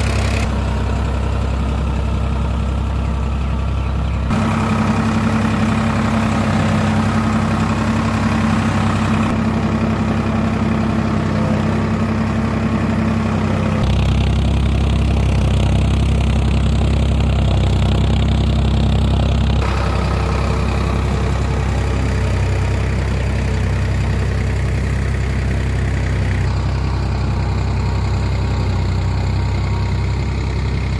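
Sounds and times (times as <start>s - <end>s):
tractor diesel engine idling: 0.0s - 30.9s.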